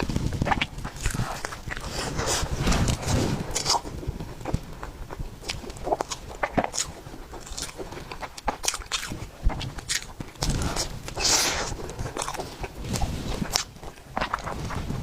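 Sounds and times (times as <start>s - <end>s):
close chewing of soft cake: 0.0s - 15.0s.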